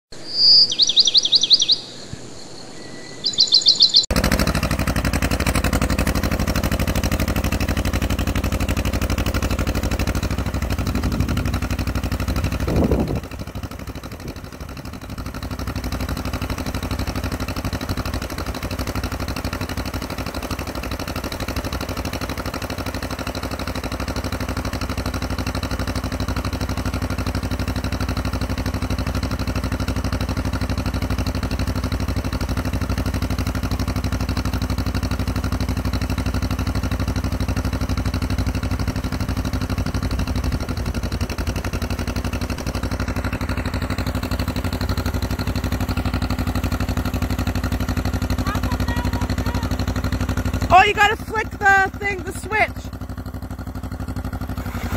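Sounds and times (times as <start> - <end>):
tractor engine running: 3.2 - 54.9.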